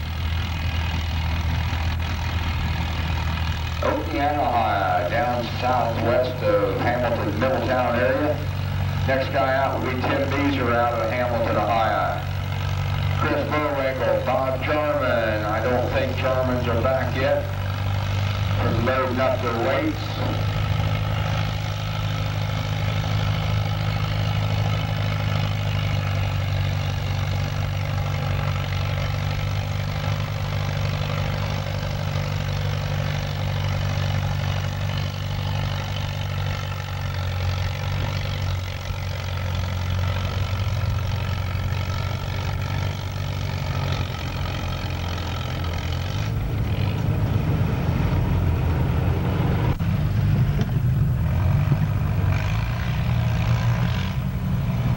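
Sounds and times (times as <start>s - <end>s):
tractor engine droning: 0.0s - 54.9s.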